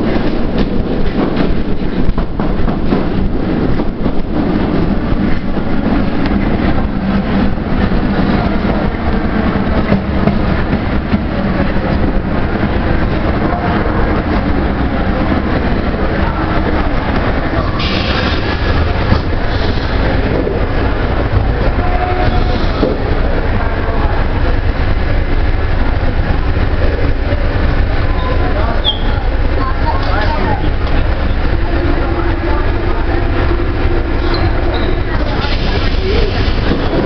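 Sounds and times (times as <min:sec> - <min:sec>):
train wheels rumbling and rattling: 0:00.0 - 0:37.0.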